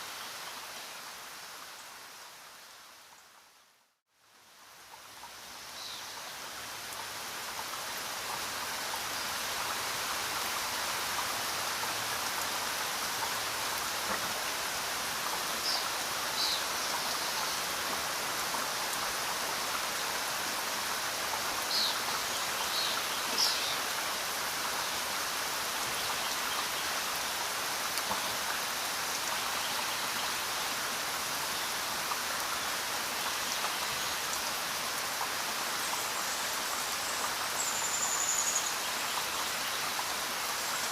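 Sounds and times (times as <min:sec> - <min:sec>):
rain hiss: 0:00.0 - 0:40.9.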